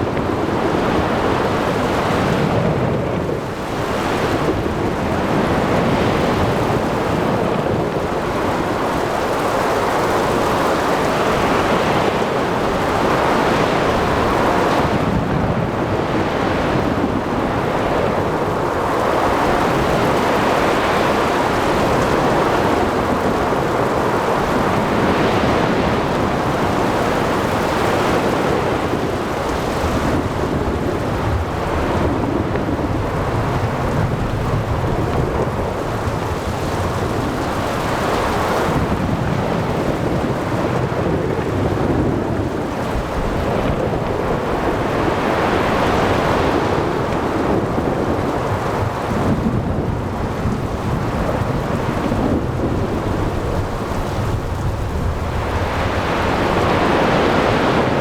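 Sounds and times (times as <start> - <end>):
breaking ocean waves: 0.0 - 58.0
wind: 0.0 - 58.0
steady rain: 4.2 - 58.0.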